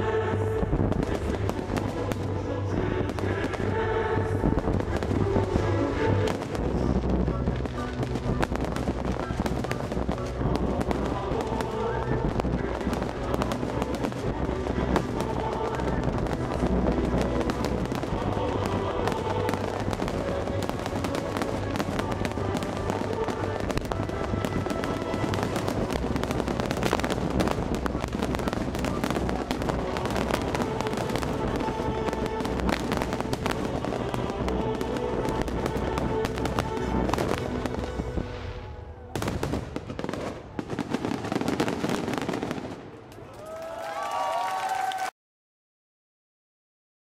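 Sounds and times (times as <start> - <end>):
orchestral music: 0.0 - 42.5
fireworks bursting and crackling: 0.0 - 43.2.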